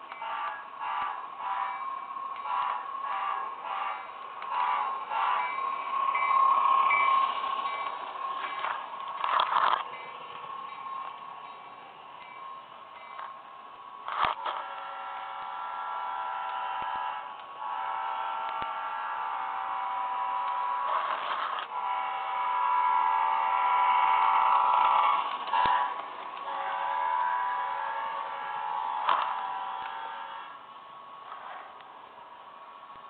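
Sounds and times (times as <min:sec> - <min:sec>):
model train motor whine: 0:00.0 - 0:33.0.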